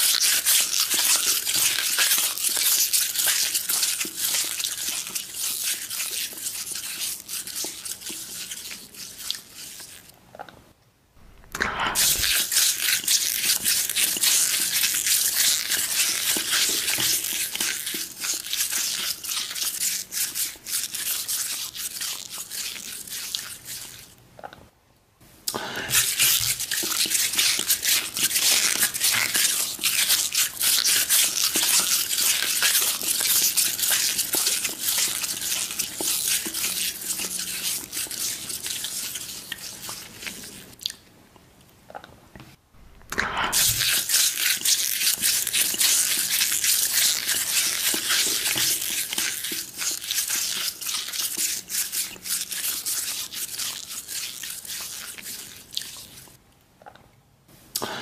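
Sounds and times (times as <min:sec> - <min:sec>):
wet crackling chewing: 0:00.0 - 0:10.5, 0:11.2 - 0:24.6, 0:25.5 - 0:42.0, 0:42.8 - 0:56.4.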